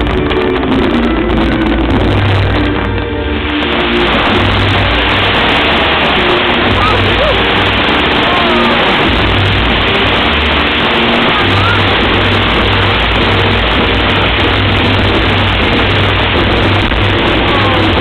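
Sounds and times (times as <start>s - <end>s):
fireworks crackling and bursting: 0.0s - 18.0s
fireworks whistling: 0.0s - 18.0s
music with low sustained notes: 0.0s - 18.0s.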